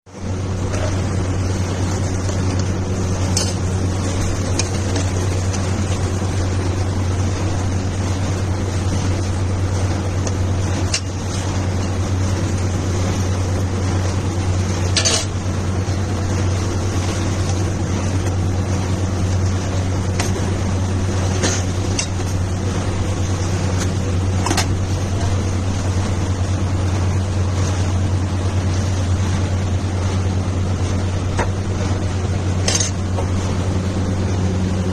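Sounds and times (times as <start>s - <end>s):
steady low hum: 0.1s - 34.9s.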